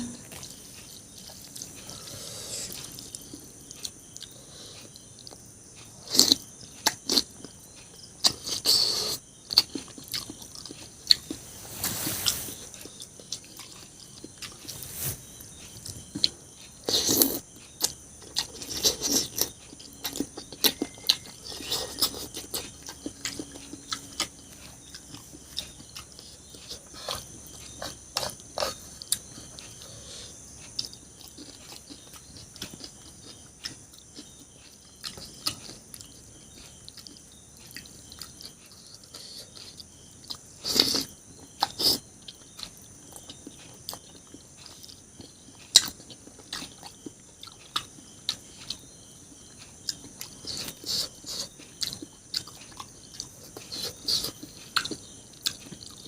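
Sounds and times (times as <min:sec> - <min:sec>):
person chewing: 0:00.0 - 0:11.5, 0:12.6 - 0:48.8, 0:49.4 - 0:56.0.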